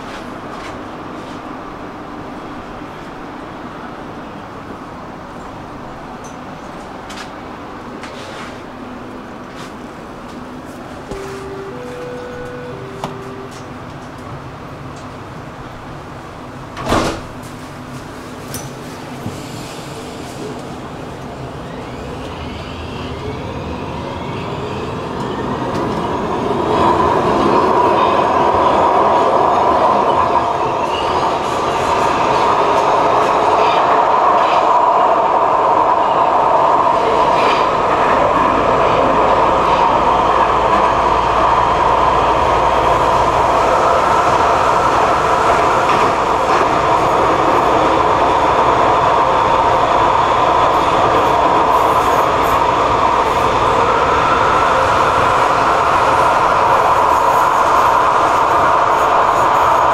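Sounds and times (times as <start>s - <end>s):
metro train rumble and rail noise: 0.0s - 59.9s.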